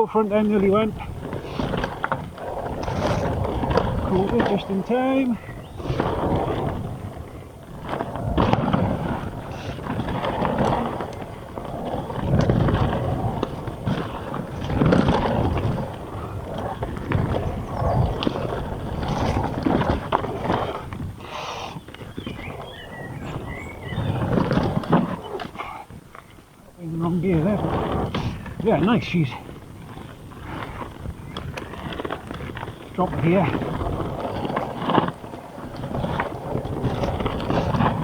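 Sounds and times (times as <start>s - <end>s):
bike rattling over rough ground: 0.0s - 38.0s
bike tyres rolling on dirt: 0.0s - 38.0s.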